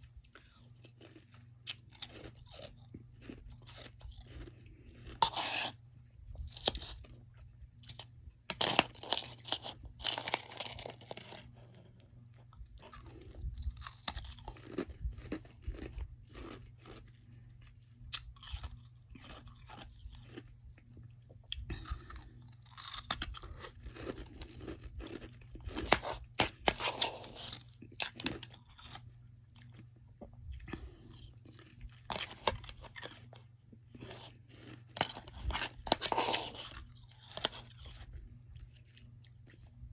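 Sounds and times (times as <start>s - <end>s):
chewing crunchy frost: 0.0s - 39.9s
faint low hum: 0.0s - 39.9s.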